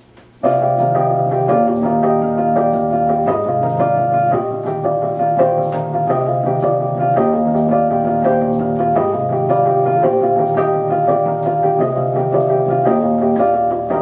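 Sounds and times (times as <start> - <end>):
electric piano playing chords: 0.4 - 14.0.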